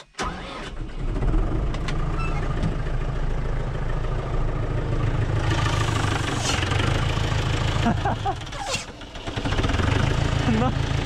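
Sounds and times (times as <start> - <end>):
tractor diesel engine starting and idling: 0.0 - 11.0.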